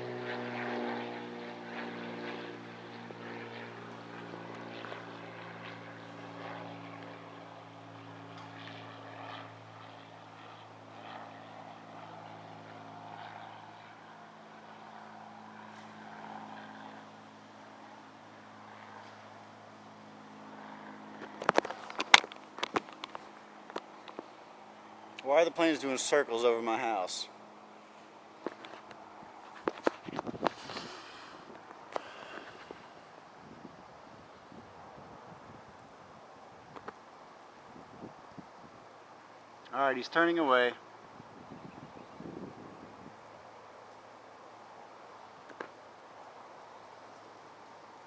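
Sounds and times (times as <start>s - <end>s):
propeller airplane passing overhead: 0.0s - 48.0s.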